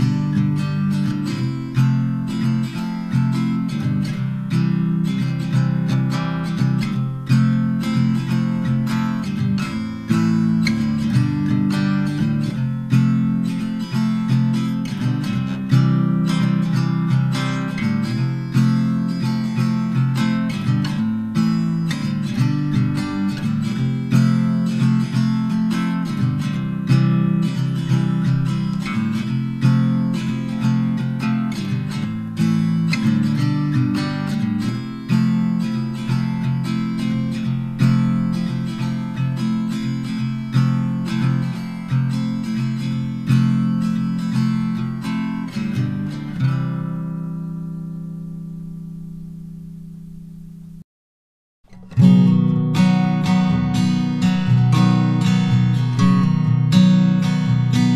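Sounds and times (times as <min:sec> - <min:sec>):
acoustic guitar music: 0:00.0 - 0:50.8, 0:51.6 - 0:57.9.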